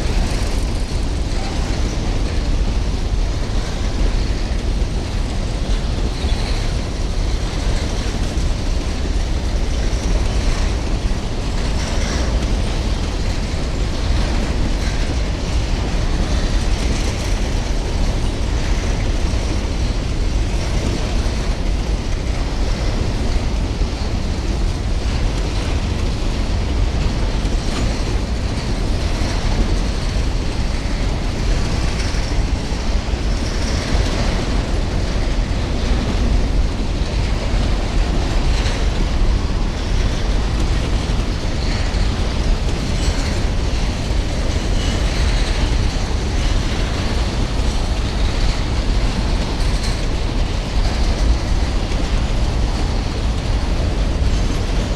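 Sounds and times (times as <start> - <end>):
train wagons rumbling on rails: 0.0 - 54.9
wheels clicking over rail joints: 0.0 - 54.9.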